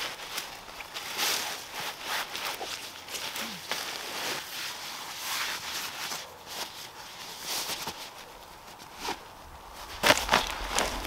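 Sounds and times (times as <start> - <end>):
rustling and scuffing: 0.0 - 11.0.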